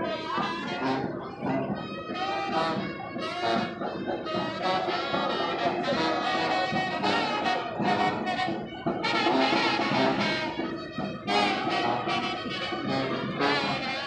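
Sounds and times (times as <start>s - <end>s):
brass band playing jazz: 0.0s - 14.0s.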